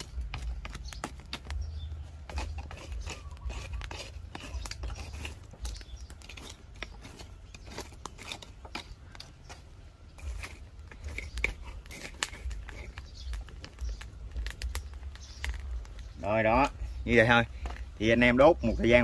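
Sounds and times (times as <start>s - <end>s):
charcoal fire crackling: 0.0s - 19.0s.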